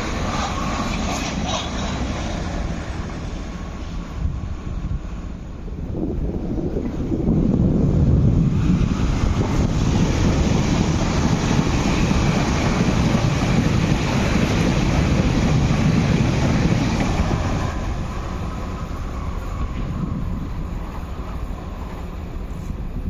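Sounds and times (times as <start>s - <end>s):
train passing rumble: 0.0s - 23.0s.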